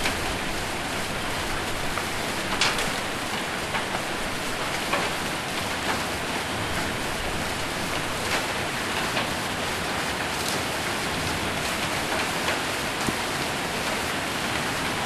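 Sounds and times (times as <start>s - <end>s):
rain and hail on a roof: 0.0s - 15.0s.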